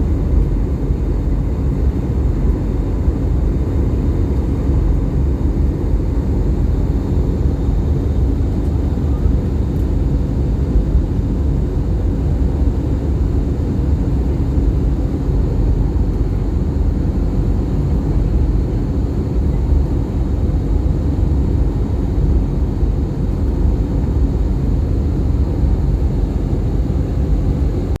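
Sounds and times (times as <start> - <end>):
faint constant hum: 0.0 - 28.0
jet cabin low rumble: 0.0 - 28.0.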